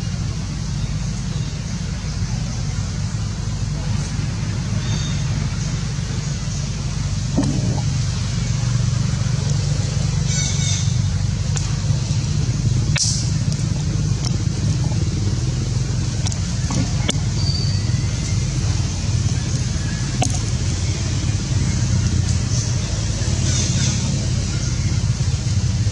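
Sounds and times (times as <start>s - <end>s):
steady low rumble: 0.0s - 23.5s.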